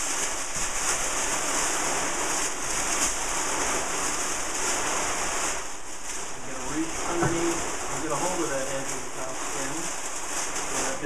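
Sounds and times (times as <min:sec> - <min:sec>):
kite fabric rustling and crinkling: 0:00.0 - 0:11.0.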